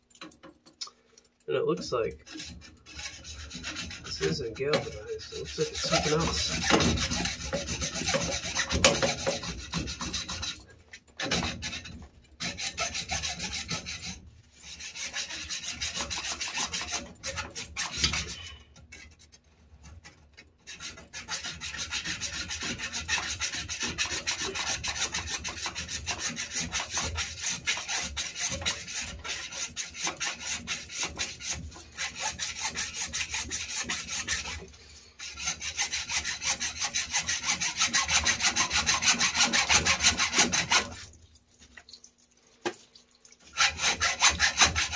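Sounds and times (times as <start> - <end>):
hacksaw cutting metal pipe: 2.1 - 41.1, 43.5 - 44.9.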